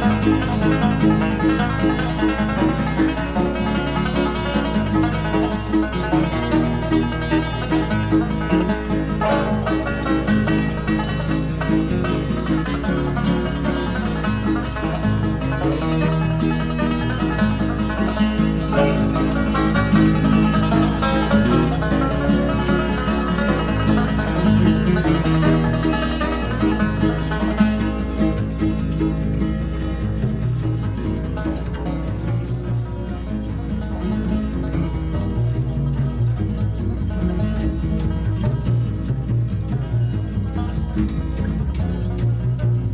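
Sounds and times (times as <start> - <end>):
banjo: 0.0 - 42.9
bluegrass band playing: 0.0 - 42.9.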